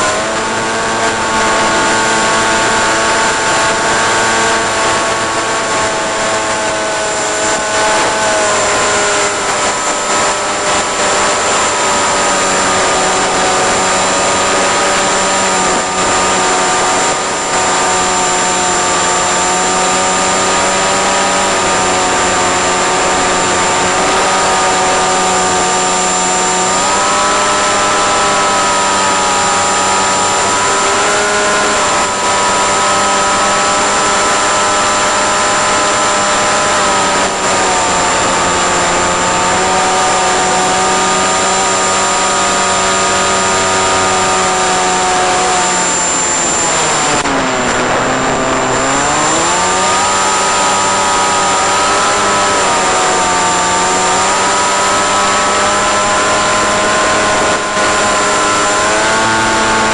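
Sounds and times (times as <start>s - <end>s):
electric motor and propeller whining: 0.0s - 59.9s.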